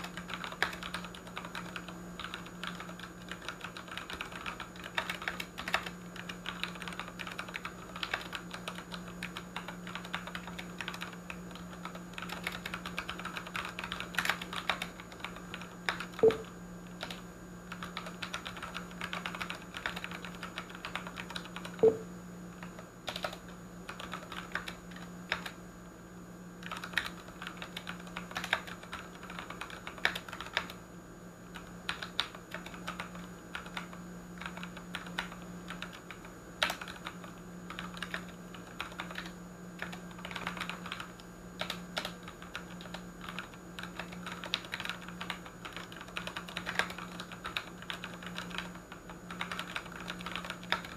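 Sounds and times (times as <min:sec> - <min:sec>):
low steady hum: 0:00.0 - 0:50.9.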